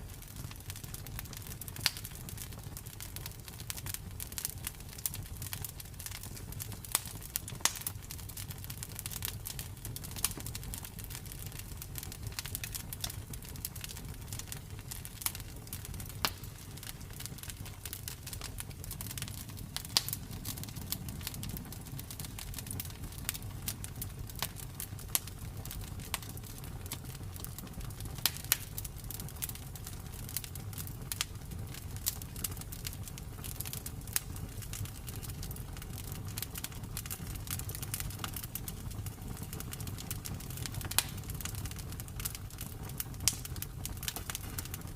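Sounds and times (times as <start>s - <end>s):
campfire crackling and popping: 0.0s - 44.9s
low rumble of flames: 0.0s - 44.9s.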